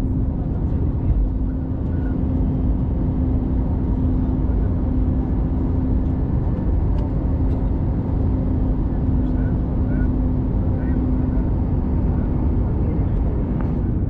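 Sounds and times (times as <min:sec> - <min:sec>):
airliner cabin engine rumble: 0:00.0 - 0:14.0
constant hum: 0:00.0 - 0:14.0.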